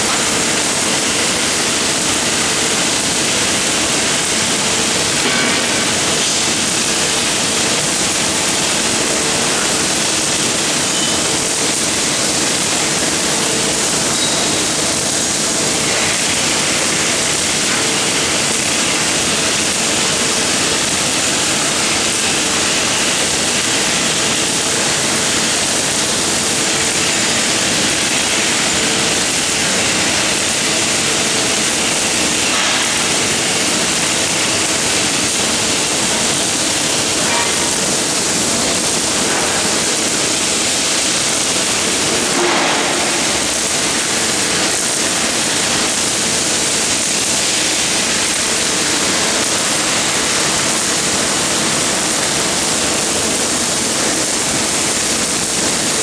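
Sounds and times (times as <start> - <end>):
welding arc hissing: 0.0 - 56.0.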